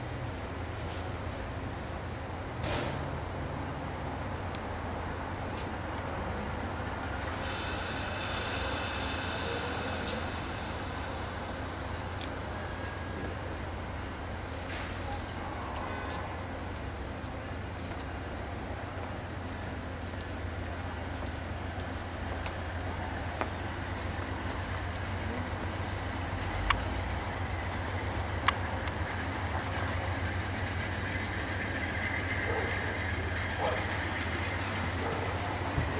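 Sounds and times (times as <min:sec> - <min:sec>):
crickets chirping: 0:00.0 - 0:35.9
passenger train rumble: 0:00.0 - 0:35.9.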